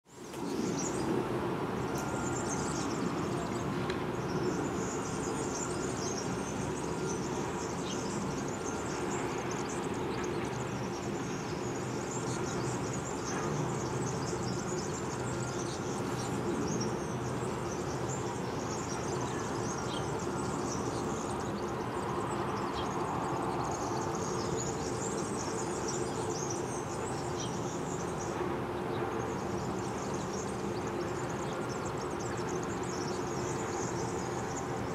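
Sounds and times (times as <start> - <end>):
small birds twittering: 0.1 - 34.9.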